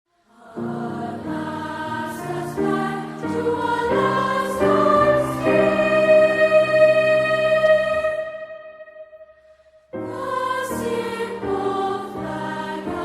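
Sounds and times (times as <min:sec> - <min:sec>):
choir singing held chords: 0:00.2 - 0:13.0.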